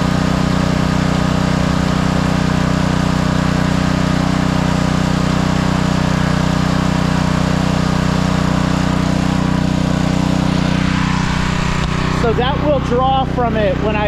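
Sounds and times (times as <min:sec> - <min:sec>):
pressure washer engine running: 0:00.0 - 0:14.0.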